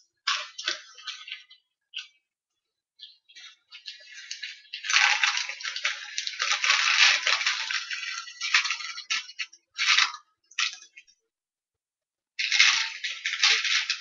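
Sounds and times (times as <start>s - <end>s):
small props crinkling: 0.0s - 2.2s, 3.0s - 11.1s, 12.4s - 14.0s.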